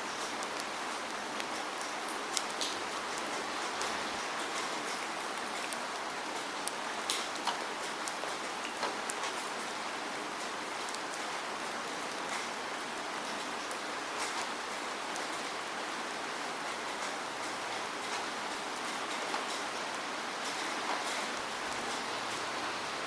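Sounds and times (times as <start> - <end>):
rain hissing: 0.0 - 12.5, 16.2 - 23.0
raindrops ticking close by: 0.0 - 23.0.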